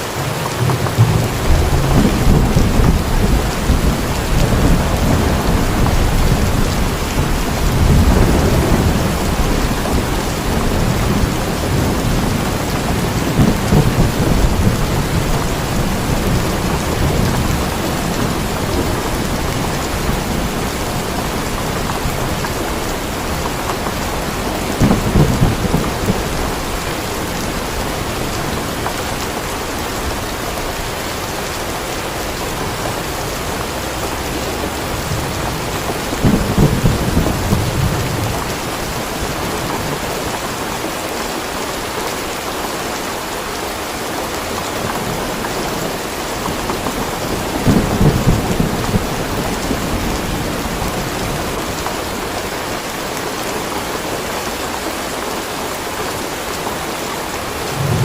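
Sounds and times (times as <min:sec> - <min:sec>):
steady rain falling: 0:00.0 - 0:58.0
thunder rumbling: 0:00.1 - 0:41.4, 0:44.4 - 0:52.8, 0:57.2 - 0:58.0.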